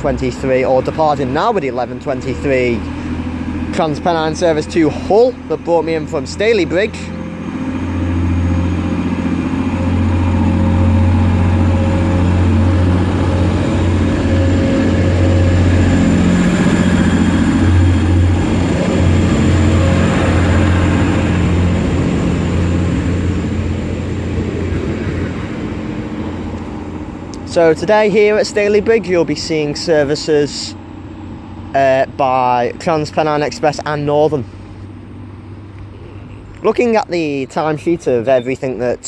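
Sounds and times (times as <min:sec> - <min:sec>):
diesel train engines droning: 0:00.0 - 0:39.0.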